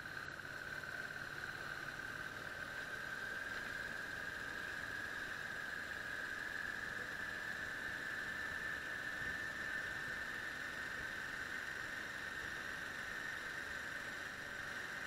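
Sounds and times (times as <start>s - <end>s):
muffled motorcycle whine: 0.0s - 15.0s.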